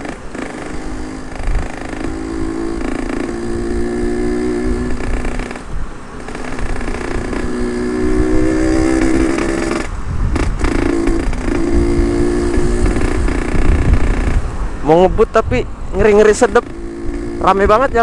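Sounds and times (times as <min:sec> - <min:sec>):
two-stroke motorcycle engine running: 0:00.0 - 0:15.1, 0:15.9 - 0:18.0
wind rumble on microphone: 0:00.0 - 0:18.0.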